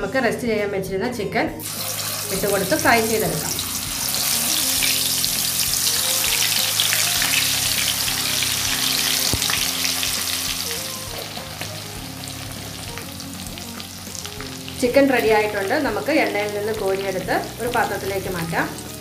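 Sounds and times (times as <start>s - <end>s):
chicken sizzling in hot oil: 1.6s - 19.0s.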